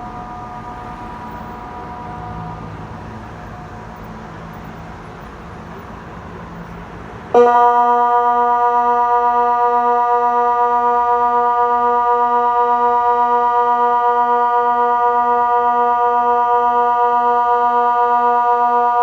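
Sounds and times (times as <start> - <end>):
electronic siren steady tone: 0.0 - 5.0, 7.4 - 19.0
background noise: 0.0 - 19.0
distant siren tone: 0.0 - 19.0.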